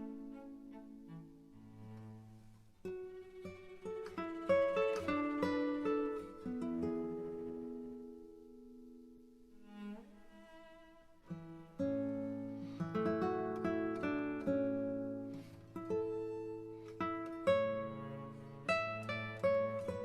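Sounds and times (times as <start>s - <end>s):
plucked strings instrumental: 0.0s - 20.0s.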